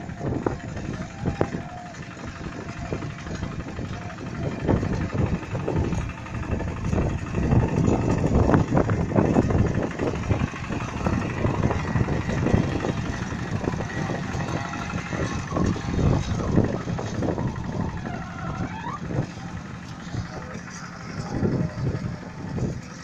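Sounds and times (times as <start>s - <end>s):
hand tractor engine running: 0.0s - 23.0s
wheels churning through mud: 0.0s - 23.0s.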